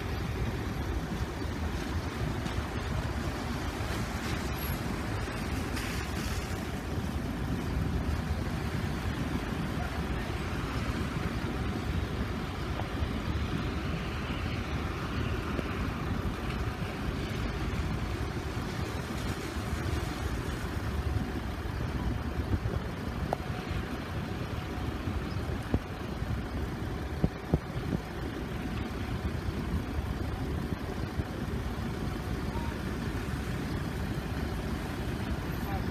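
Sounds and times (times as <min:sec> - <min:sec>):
idling vehicles rumbling: 0:00.0 - 0:35.9
wind buffeting microphone: 0:00.0 - 0:35.9.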